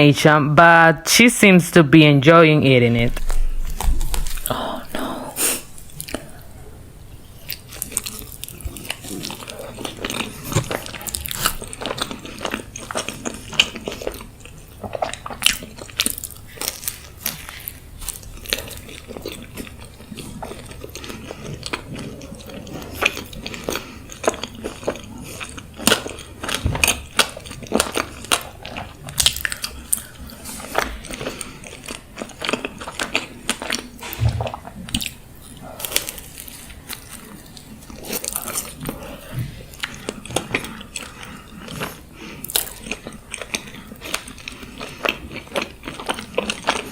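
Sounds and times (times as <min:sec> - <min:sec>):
crunchy chewing and bites: 0:07.4 - 0:46.9.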